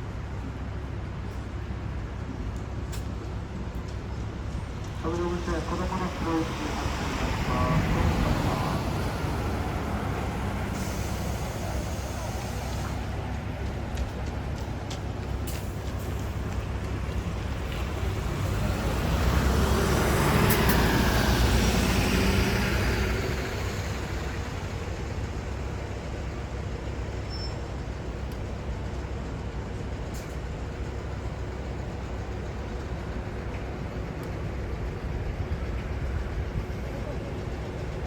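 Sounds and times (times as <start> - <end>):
traffic hum: 0.1 - 38.0.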